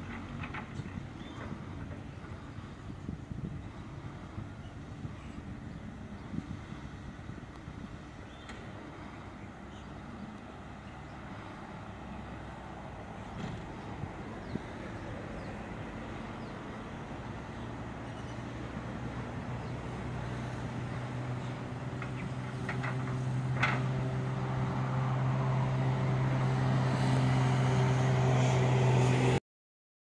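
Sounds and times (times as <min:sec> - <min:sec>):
diesel engines running: 0:00.0 - 0:29.4.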